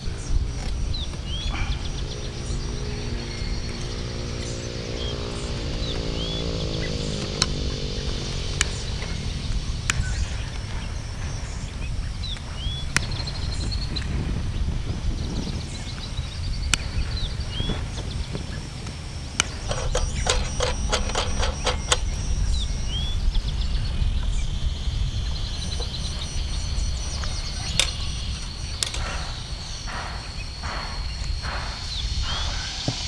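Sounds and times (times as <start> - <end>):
birds chirping: 0.0 - 33.0
high insect buzz: 0.0 - 33.0.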